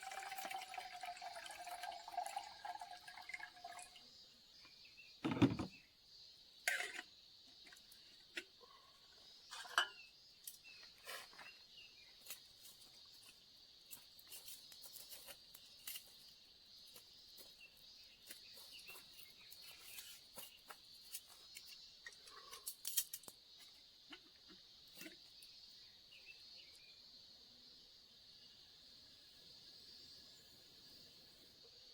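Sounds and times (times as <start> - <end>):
insects chirring: 0.0 - 31.9.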